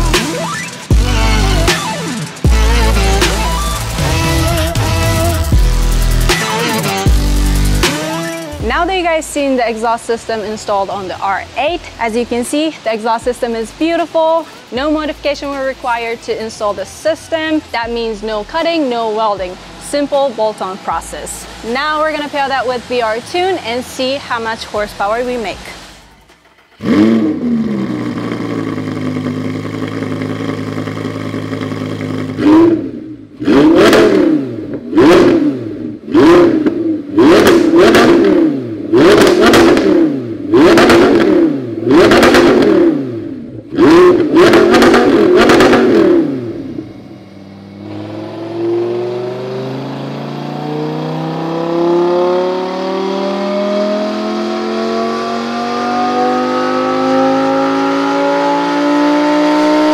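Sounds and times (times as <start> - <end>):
sports car engine revving: 0.0 - 12.6, 13.2 - 59.9.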